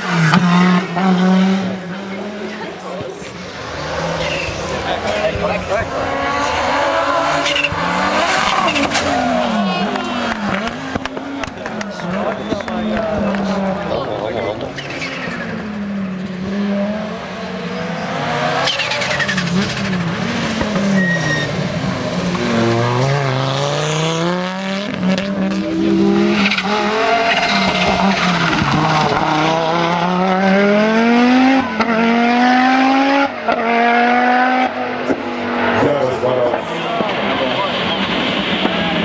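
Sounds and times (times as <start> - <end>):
gear changes: 0.0 - 38.8
rally car engine accelerating: 0.0 - 39.0.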